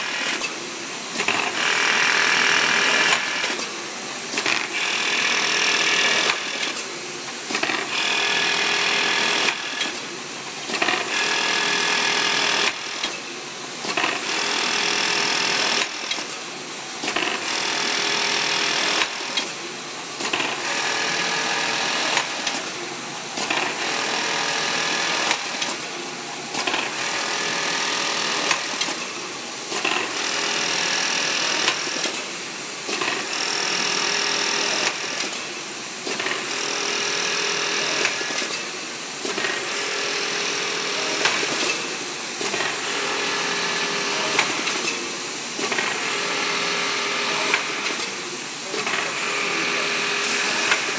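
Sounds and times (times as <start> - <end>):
industrial sewing machine stitching: 0.0 - 3.7, 4.3 - 6.9, 7.5 - 13.2, 13.8 - 16.4, 17.0 - 50.9.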